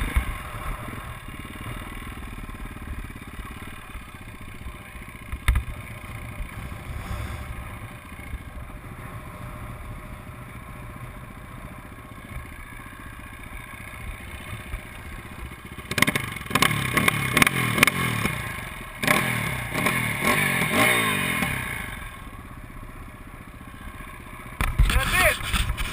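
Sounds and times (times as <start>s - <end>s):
motocross bike engines revving: 0.0s - 10.6s, 12.5s - 22.2s, 24.5s - 25.9s.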